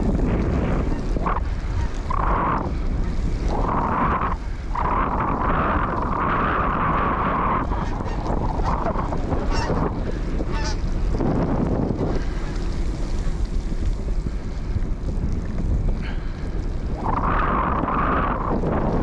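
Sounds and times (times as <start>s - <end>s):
tyre noise on wet pavement: 0.0s - 19.0s
wind buffeting microphone: 0.0s - 19.0s.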